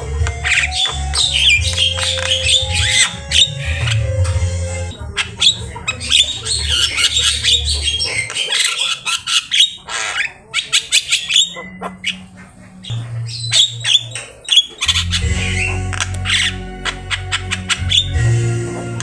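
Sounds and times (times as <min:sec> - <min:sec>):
bird chattering song: 0:00.0 - 0:19.0.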